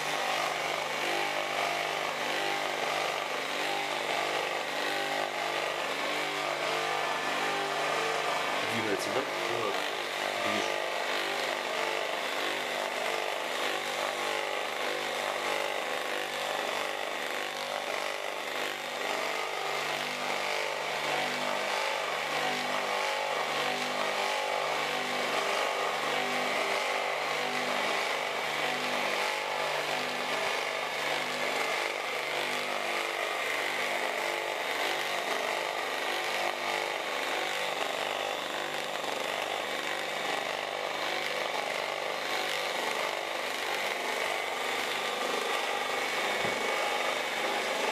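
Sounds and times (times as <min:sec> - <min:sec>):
electric motor generator running: 0:00.0 - 0:47.9.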